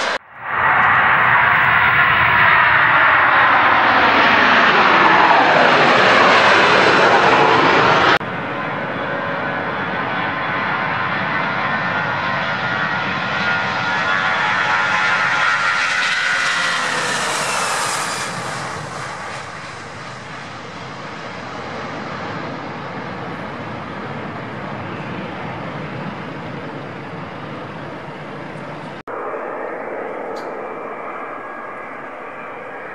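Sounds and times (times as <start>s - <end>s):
jet airliner taking off: 0.0s - 32.9s.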